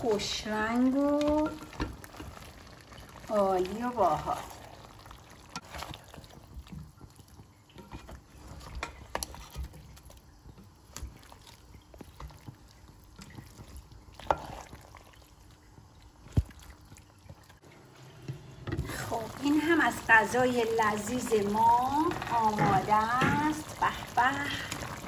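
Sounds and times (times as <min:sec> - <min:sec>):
wet squelching of stew: 0:00.0 - 0:25.0.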